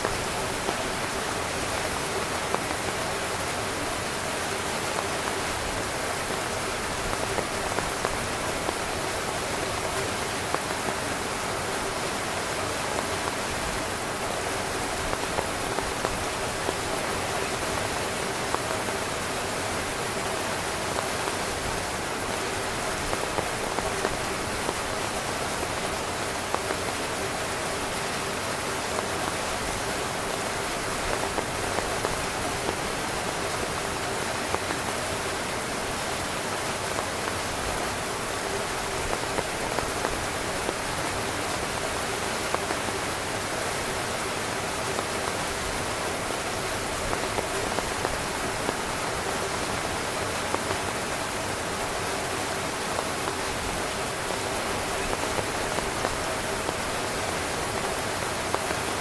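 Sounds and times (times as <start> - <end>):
heavy rain drumming on tent fabric: 0.0 - 59.0.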